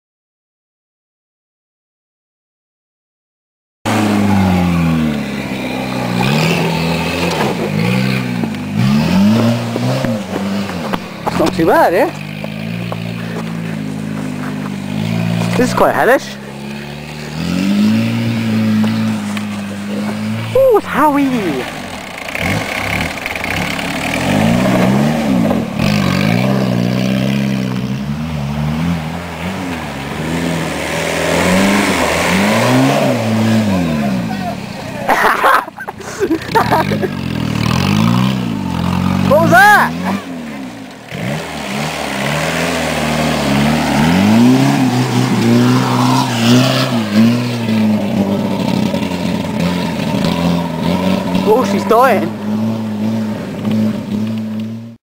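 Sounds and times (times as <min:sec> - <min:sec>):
diesel car engine revving: 0:03.9 - 0:55.0.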